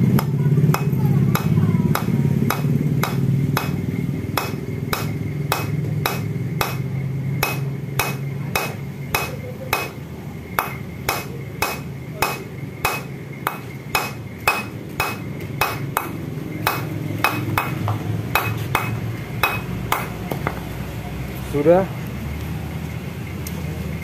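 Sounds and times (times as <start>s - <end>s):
hammer tapping metal: 0.0s - 10.0s, 10.6s - 20.6s.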